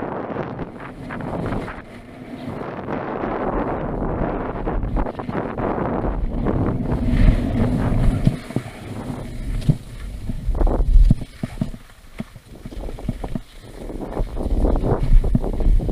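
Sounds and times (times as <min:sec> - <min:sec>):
wind noise on microphone: 0:00.0 - 0:15.9
skis scraping over packed snow: 0:00.1 - 0:15.9.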